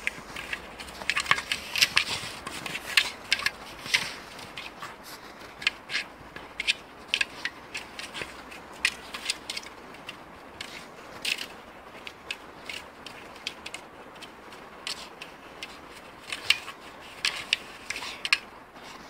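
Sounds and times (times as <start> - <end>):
dry snow crunching: 0.0 - 19.0.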